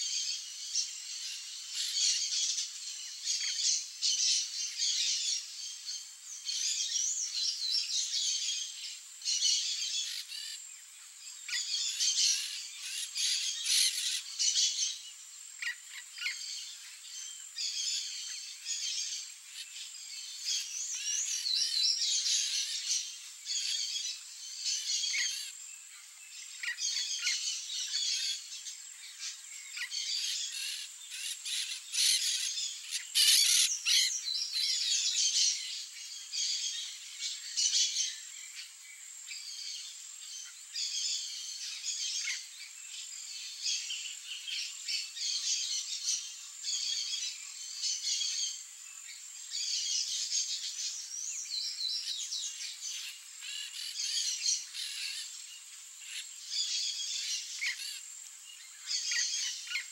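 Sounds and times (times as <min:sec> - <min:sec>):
birds chirping and calling: 0:00.0 - 0:10.6, 0:11.2 - 0:59.9.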